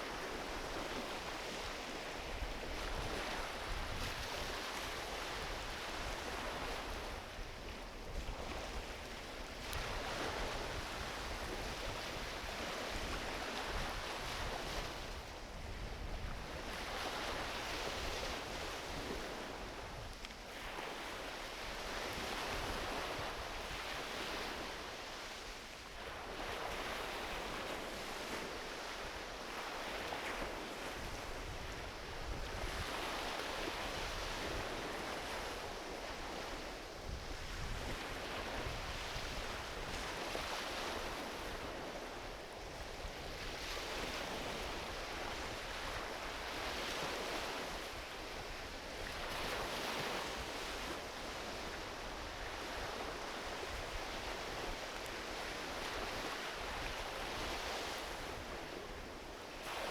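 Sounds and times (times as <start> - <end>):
ocean waves on beach: 0.0 - 59.9.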